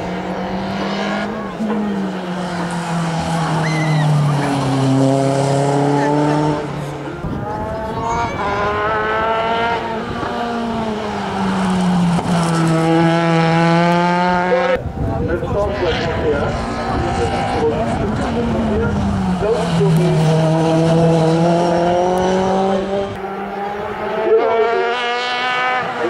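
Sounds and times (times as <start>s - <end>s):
racing car engines accelerating: 0.0s - 26.0s
second car engine revving: 0.0s - 26.0s.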